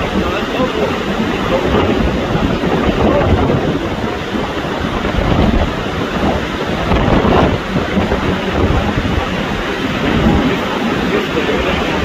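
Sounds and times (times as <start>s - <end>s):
heavy surf: 0.0s - 12.0s
strong wind rushing: 0.0s - 12.0s.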